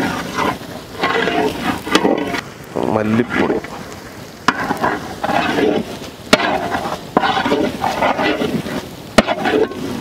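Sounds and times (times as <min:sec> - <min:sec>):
ladle stirring frying shallots: 0:00.0 - 0:10.0.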